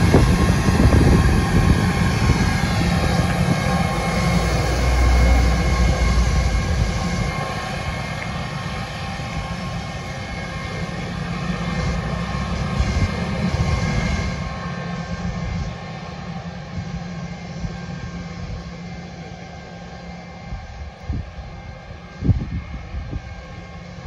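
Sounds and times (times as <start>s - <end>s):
jet engines whining and rumbling: 0.0s - 24.0s.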